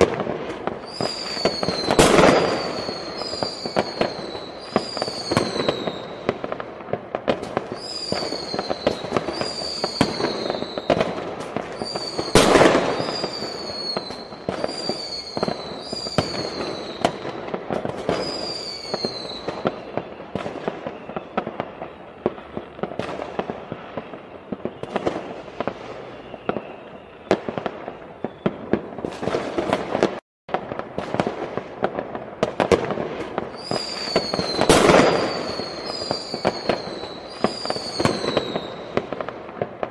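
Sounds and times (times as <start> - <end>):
loud firework bang: 0.0 - 21.7, 28.4 - 39.9
falling firework whistles: 0.0 - 30.2, 31.0 - 39.9
fireworks popping and crackling: 0.0 - 39.9.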